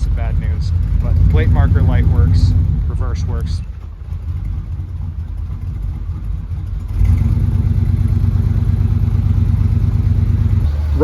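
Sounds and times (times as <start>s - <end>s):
engine idling low rumble: 0.0s - 11.0s.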